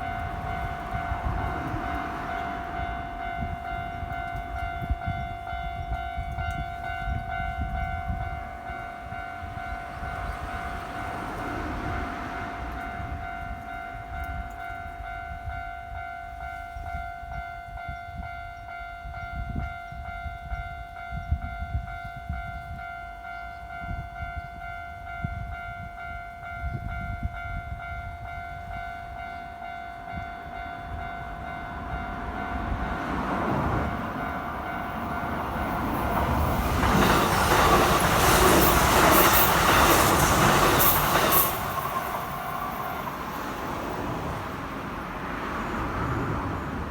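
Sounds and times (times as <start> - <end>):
train passing: 0.0 - 46.9
wheels rumbling on rails: 0.0 - 46.9.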